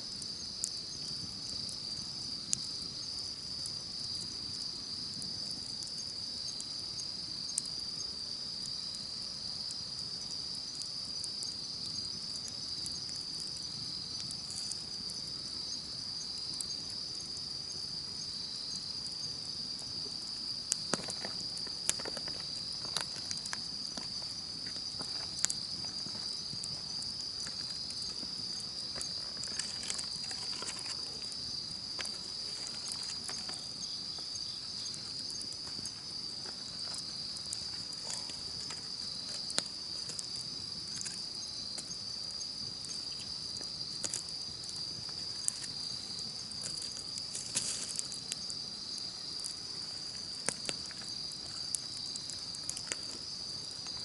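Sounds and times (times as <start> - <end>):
campfire crackling and popping: 0.0 - 54.0
insect chorus trilling: 0.0 - 54.0.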